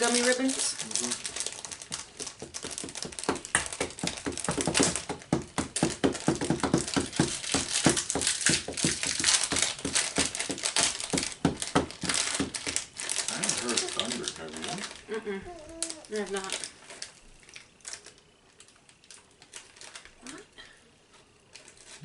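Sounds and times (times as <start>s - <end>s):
plastic wrapper crinkling: 0.0s - 22.0s.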